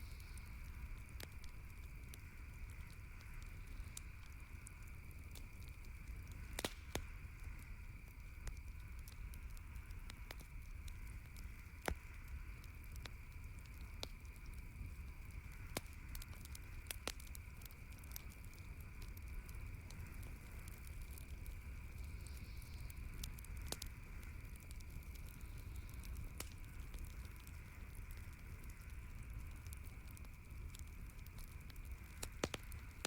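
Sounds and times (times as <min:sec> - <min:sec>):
campfire crackling: 0:00.0 - 0:33.0
steady background hiss: 0:00.0 - 0:33.0.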